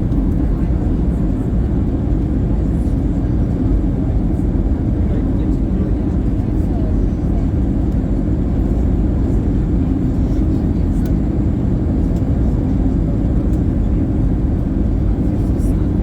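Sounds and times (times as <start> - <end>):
airliner cabin engine and airflow noise: 0.0 - 16.0.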